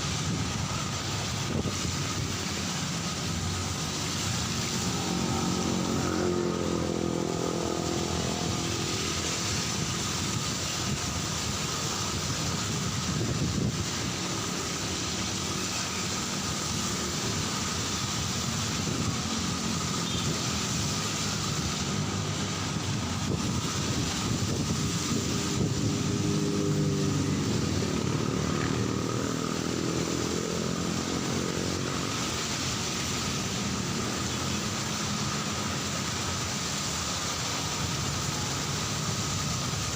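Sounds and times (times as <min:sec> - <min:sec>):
rain on a street: 0:00.0 - 0:39.9
traffic passing: 0:00.0 - 0:39.9
vehicle engine passing close: 0:00.7 - 0:39.8.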